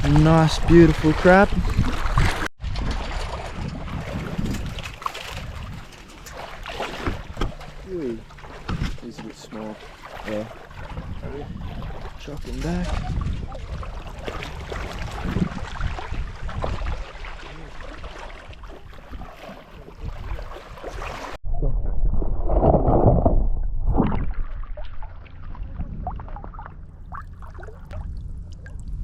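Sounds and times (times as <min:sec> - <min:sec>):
water sloshing around wading legs: 0:00.0 - 0:21.4, 0:24.2 - 0:29.0.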